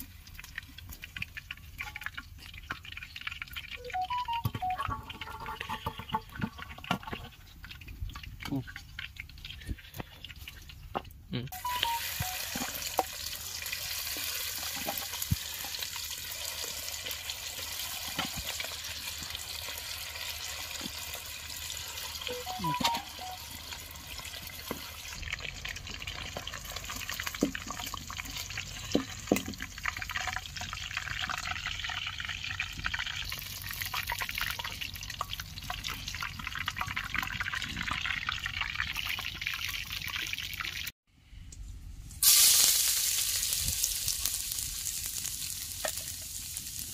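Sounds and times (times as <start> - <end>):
chicken deep-frying in oil: 0.0 - 40.9, 42.1 - 46.9.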